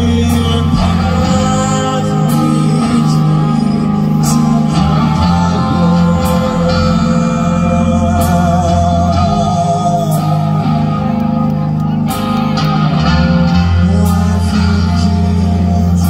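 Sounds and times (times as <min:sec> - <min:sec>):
distorted electric guitars: 0:00.0 - 0:16.0
person singing: 0:00.0 - 0:16.0.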